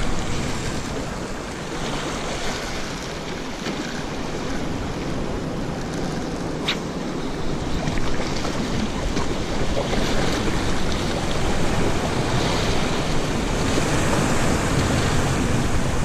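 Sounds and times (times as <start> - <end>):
ocean surf splashing on rocks: 0.0 - 16.0
wind rumbling on microphone: 0.0 - 16.0.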